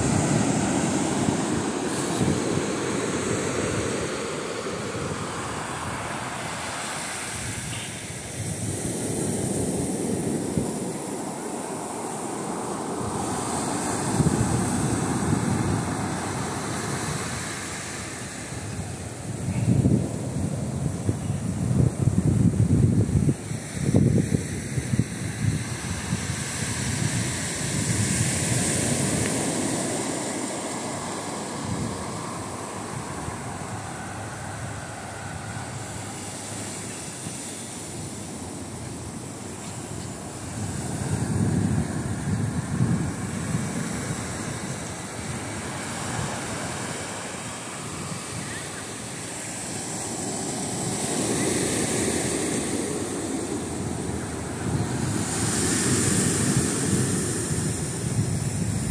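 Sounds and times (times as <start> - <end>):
waves breaking on beach: 0.0 - 58.9
wind buffeting microphone: 0.0 - 58.9.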